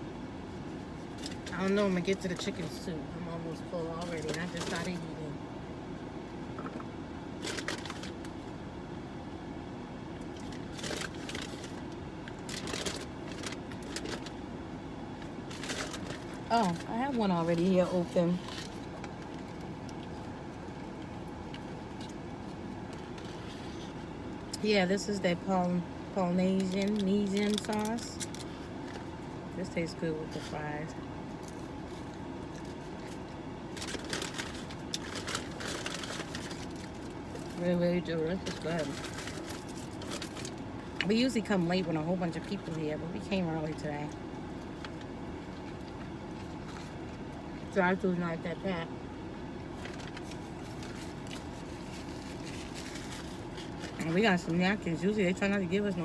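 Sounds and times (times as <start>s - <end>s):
steady low hum: 0.0s - 56.0s
crackling rustles of packaging: 0.5s - 2.9s, 3.5s - 5.2s, 7.3s - 8.7s, 10.2s - 25.5s, 26.4s - 48.1s, 49.4s - 55.9s.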